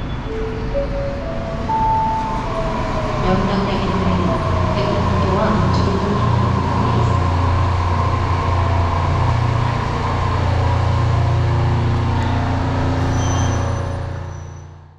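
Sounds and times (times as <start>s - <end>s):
train mechanical hum: 0.0s - 14.9s.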